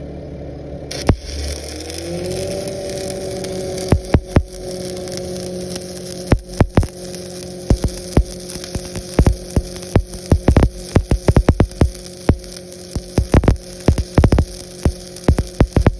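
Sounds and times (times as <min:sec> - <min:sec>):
diesel engine running: 0:00.0 - 0:15.9
sharp irregular cracks and pops: 0:00.9 - 0:15.9.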